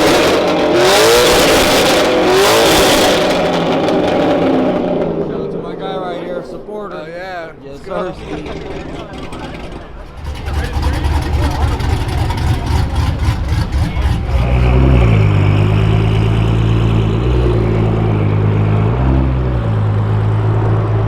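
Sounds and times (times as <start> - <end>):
car exhaust revving: 0.0 - 21.0.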